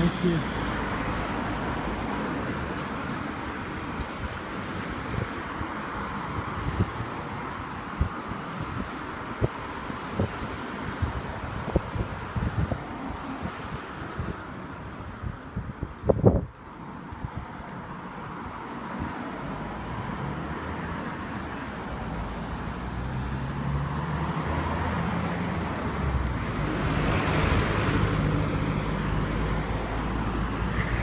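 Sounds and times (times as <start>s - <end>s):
car engines and tyres passing: 0.0s - 31.0s.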